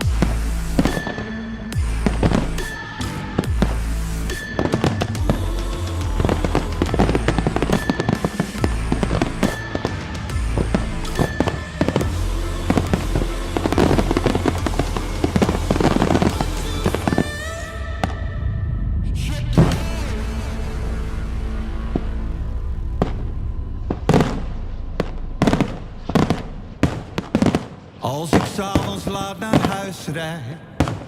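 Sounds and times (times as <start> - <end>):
music with bass line: 0.0 - 17.8, 19.0 - 27.6
fireworks bangs and crackling: 0.0 - 18.3, 22.9 - 31.0.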